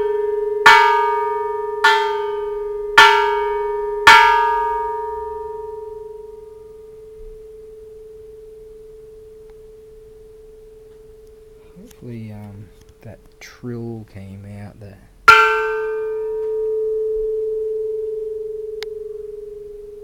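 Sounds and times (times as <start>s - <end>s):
temple bell ringing: 0.0s - 13.2s, 15.3s - 20.0s.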